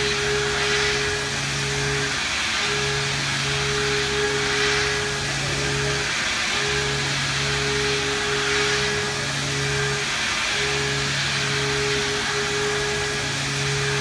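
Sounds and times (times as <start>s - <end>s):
milling machine cutting steel: 0.0s - 14.0s.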